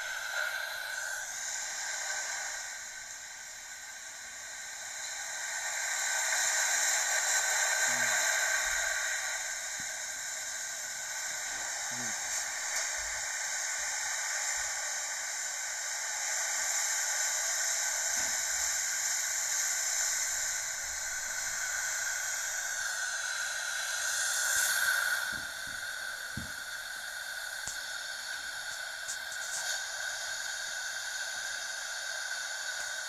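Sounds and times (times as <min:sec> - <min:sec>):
car wash jets hissing: 0:00.0 - 0:33.0.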